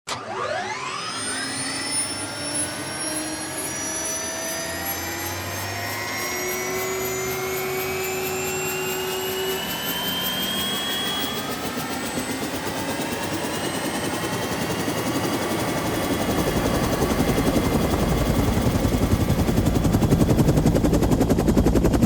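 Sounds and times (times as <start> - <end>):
helicopter turbine whining: 0.2 - 22.0
rapid rotor pulsing: 3.7 - 22.0.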